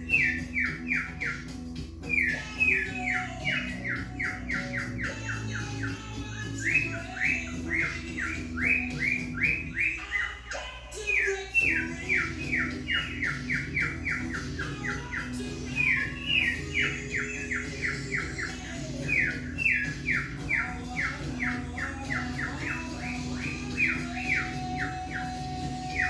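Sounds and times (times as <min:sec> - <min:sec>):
cockatiel chirping: 0:00.0 - 0:26.0
recorded song: 0:00.0 - 0:26.0.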